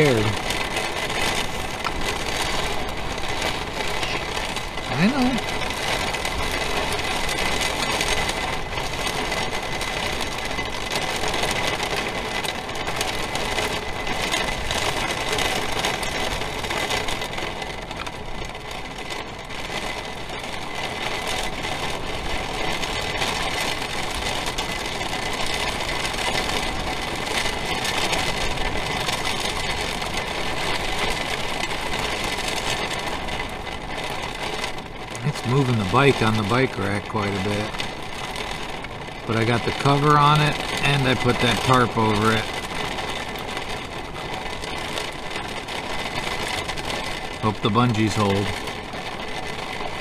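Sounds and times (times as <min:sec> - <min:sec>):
heavy rain and wind on vehicle: 0:00.0 - 0:50.0.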